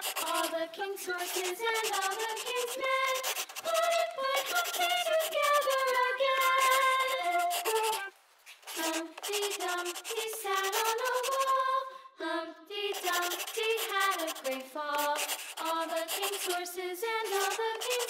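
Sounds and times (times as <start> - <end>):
high voice singing children's song: 0.0 - 8.1, 8.7 - 18.0.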